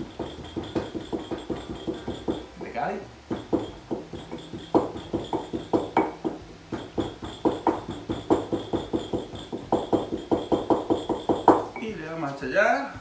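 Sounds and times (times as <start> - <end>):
wooden pestle pounding in ceramic mortar: 0.0 - 11.9.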